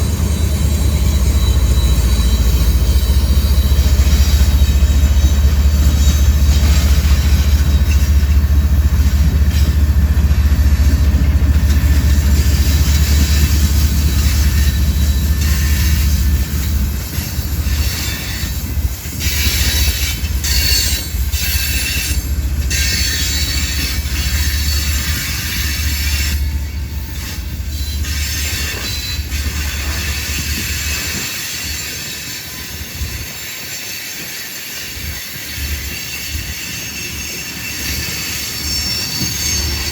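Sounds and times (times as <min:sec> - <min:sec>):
wheel squeal: 0:00.0 - 0:09.8, 0:11.6 - 0:39.9
train wheels rumbling on rail: 0:00.0 - 0:39.9.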